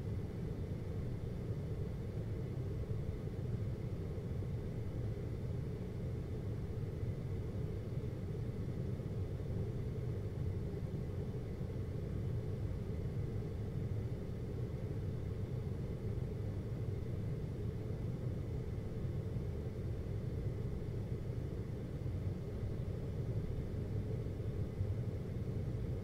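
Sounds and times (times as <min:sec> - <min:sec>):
window air conditioner humming: 0:00.0 - 0:26.0.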